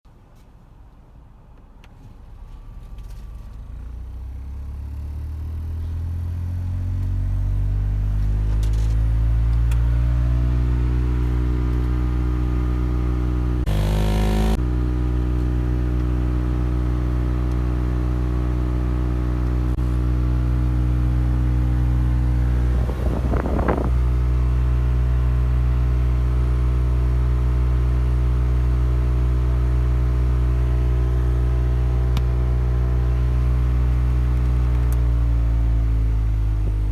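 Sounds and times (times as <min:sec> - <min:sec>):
car droning hum: 0:02.2 - 0:36.9.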